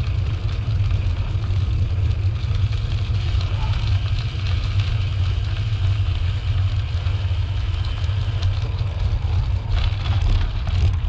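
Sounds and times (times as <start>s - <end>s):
steady riding hiss: 0.0s - 11.0s.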